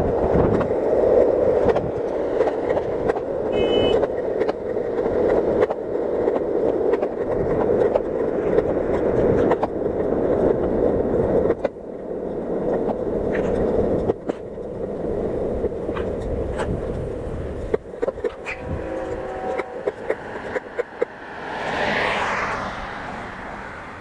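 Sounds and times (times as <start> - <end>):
skateboard wheels rolling on pavement: 0.0 - 24.0
wheels clicking over cracks: 0.0 - 24.0.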